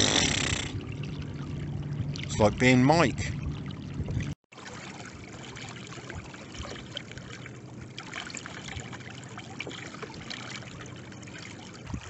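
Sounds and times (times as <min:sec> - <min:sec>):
water lapping against kayak hull: 0:00.0 - 0:12.0
small splashes and drips: 0:00.8 - 0:12.0.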